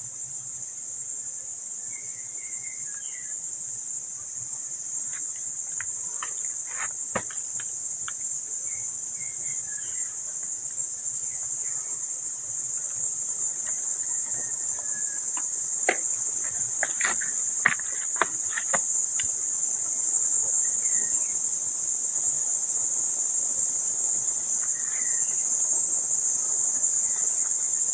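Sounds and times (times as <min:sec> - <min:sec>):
insects chorus: 0:00.0 - 0:27.9.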